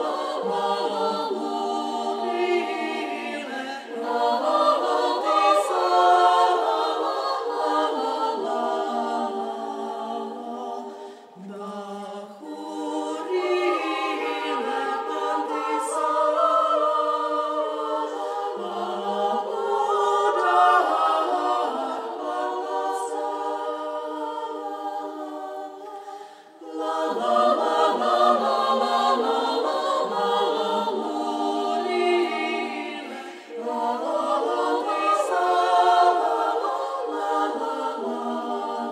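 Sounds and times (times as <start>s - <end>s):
women's choir singing a cappella: 0.0s - 38.9s.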